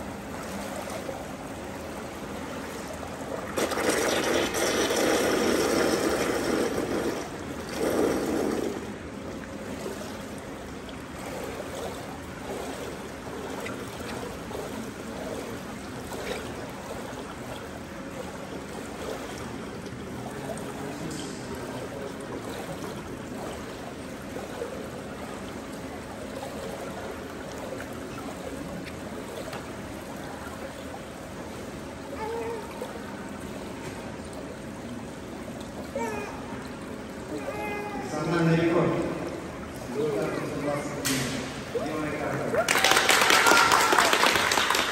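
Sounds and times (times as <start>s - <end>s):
water trickling and lapping: 0.0s - 44.9s.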